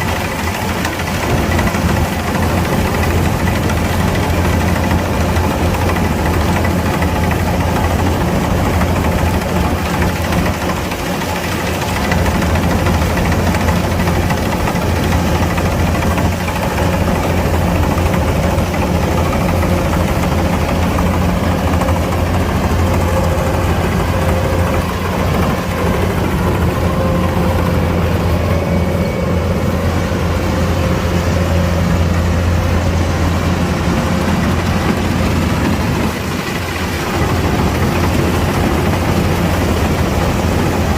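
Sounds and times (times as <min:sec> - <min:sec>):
combine harvester diesel drone: 0:00.0 - 0:40.9.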